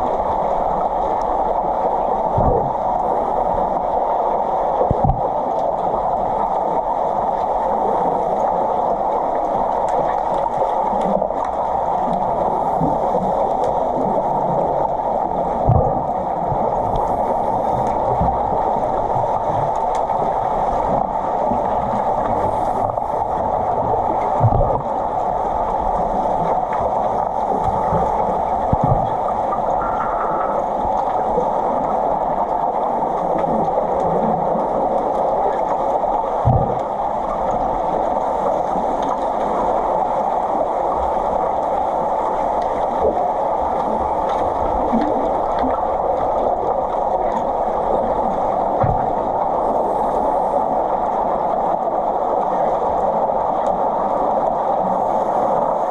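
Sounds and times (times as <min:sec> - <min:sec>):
underwater rushing water: 0:00.0 - 0:55.9.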